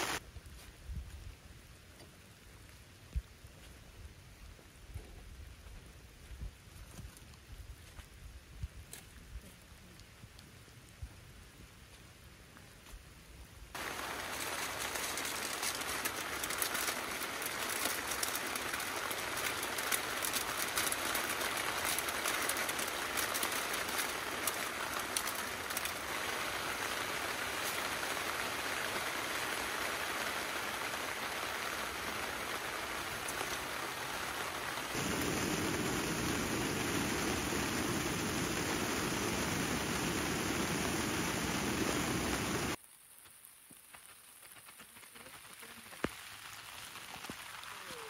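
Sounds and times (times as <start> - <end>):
rain on a tent tarp: 0.0 - 48.0.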